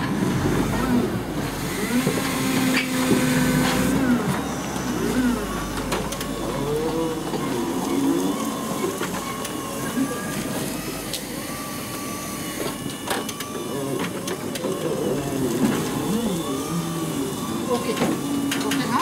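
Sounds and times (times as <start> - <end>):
forklift mechanical whine: 0.0 - 19.0.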